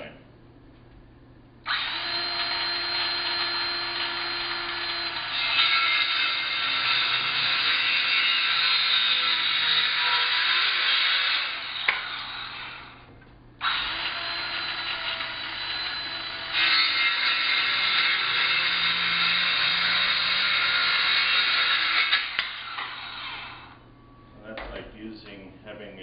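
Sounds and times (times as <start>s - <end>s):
power saw cutting wood: 1.7s - 13.0s, 13.6s - 23.8s.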